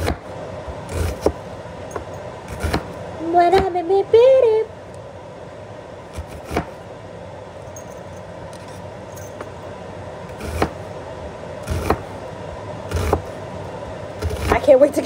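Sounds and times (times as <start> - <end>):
kitchen hum: 0.0 - 15.0.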